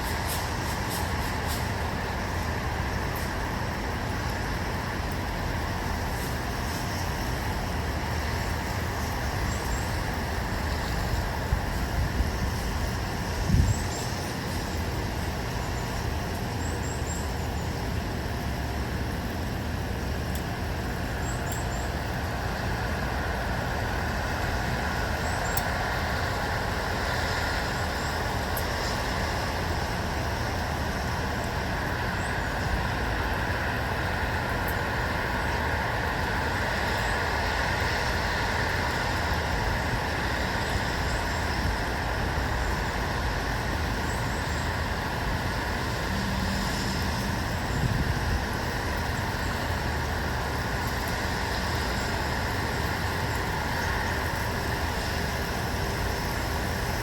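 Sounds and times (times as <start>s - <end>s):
distant road traffic hum: 0.0s - 57.0s.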